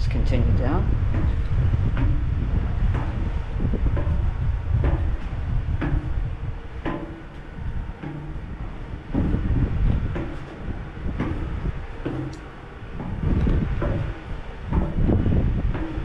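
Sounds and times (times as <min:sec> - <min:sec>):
footsteps on metal stairs: 0:00.0 - 0:16.0
wind noise: 0:00.0 - 0:16.0.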